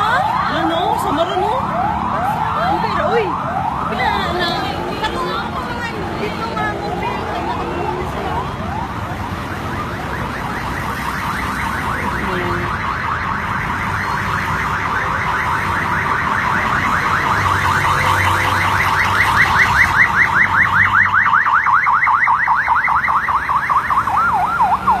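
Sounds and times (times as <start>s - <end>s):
emergency vehicle siren yelping: 0.0s - 25.0s.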